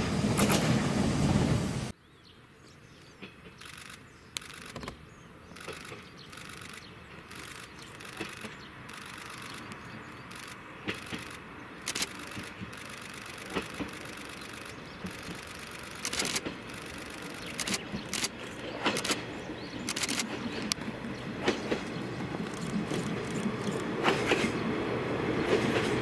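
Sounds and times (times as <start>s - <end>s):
electric train running past: 0.0s - 2.0s, 5.6s - 26.0s.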